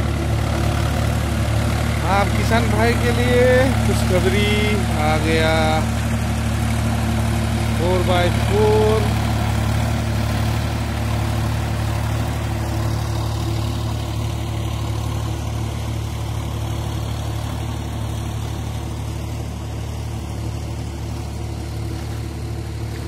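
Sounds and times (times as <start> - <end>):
tractor diesel engine drone: 0.0 - 23.0.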